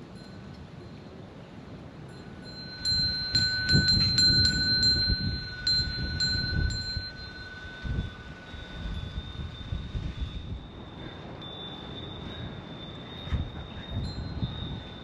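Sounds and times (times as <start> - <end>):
small temple bells ringing: 0.0 - 15.0.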